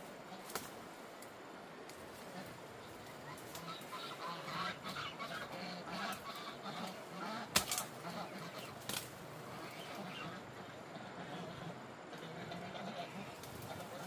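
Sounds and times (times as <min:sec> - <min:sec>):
chickens clucking: 0:02.0 - 0:14.0.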